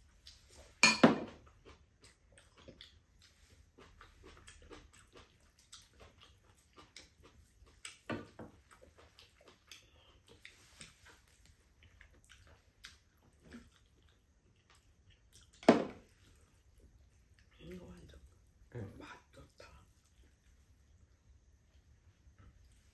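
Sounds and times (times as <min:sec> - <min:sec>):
chewing noodles: 0:00.0 - 0:18.8.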